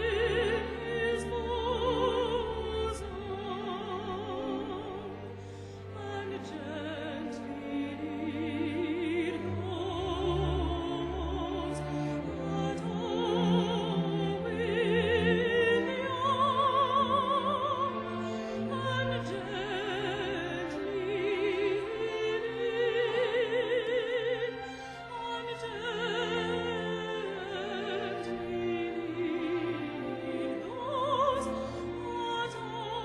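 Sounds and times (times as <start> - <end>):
classical voices singing with vibrato: 0.0 - 33.0
string orchestra: 0.0 - 33.0.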